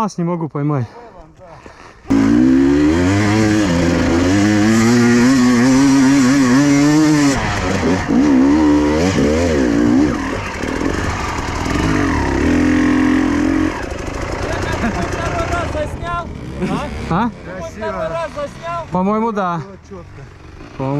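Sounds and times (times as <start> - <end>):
dirt bike engine revving: 2.0 - 20.9.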